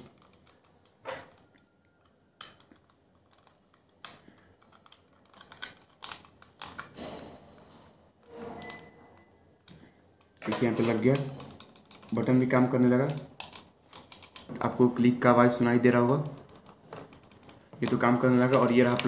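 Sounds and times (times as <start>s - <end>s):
plastic rubbing: 0.0s - 7.0s, 9.6s - 15.2s, 16.0s - 19.0s.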